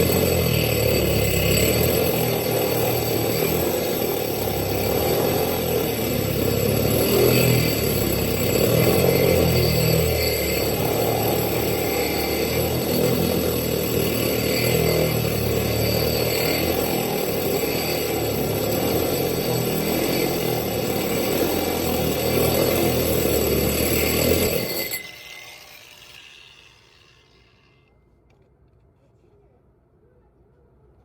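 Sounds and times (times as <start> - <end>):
electric drill cutting glass: 0.0 - 28.0.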